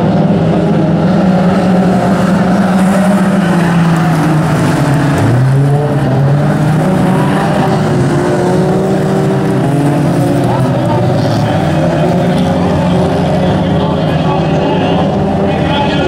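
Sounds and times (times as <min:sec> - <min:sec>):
car engine accelerating: 0:00.0 - 0:16.0
race car engines running: 0:00.0 - 0:16.0.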